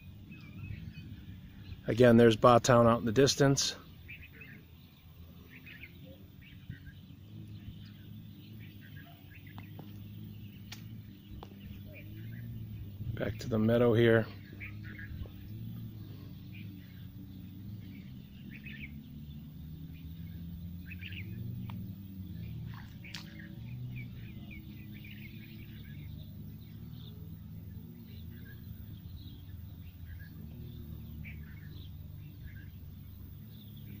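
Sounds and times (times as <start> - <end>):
birds chirping: 0.0 - 34.0
low rumble: 3.8 - 34.0.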